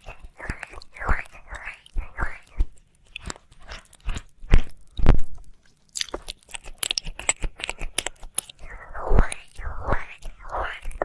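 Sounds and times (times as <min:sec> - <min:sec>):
wet mouth clicks and smacks: 0:00.0 - 0:05.1, 0:05.9 - 0:11.0.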